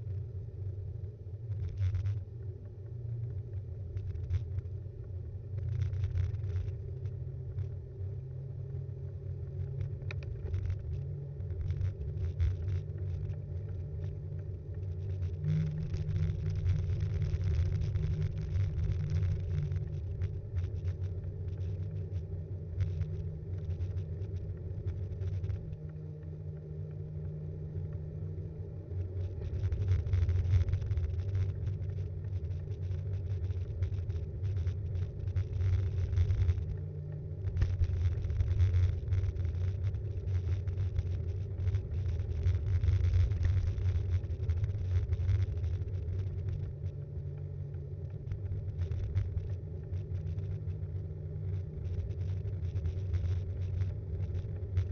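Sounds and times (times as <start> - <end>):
bike tyres rumbling: 1.0 - 54.9.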